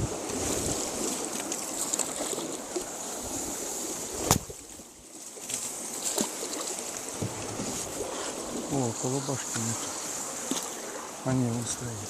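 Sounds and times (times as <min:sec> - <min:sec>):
boat water wash and hull noise: 0:00.0 - 0:12.0.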